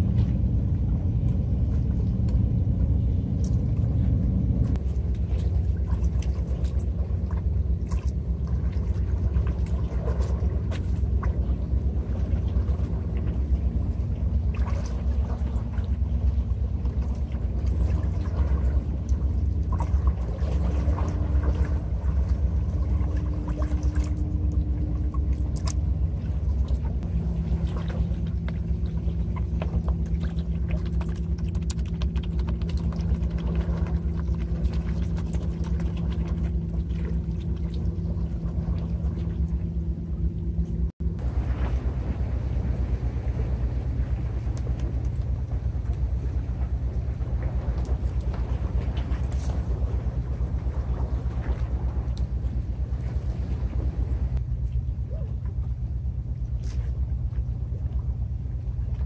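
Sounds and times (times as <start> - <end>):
boat engine rumbling: 0.0 - 59.0.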